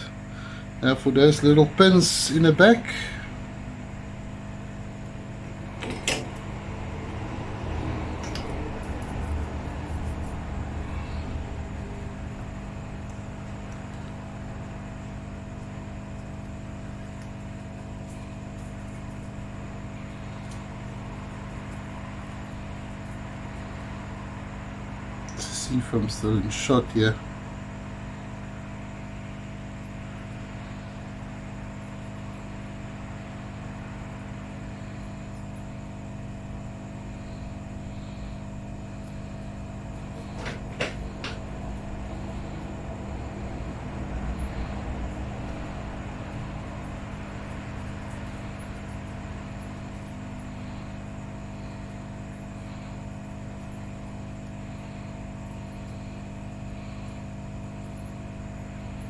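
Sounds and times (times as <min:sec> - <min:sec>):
machine hum with tones: 0:00.0 - 0:59.0.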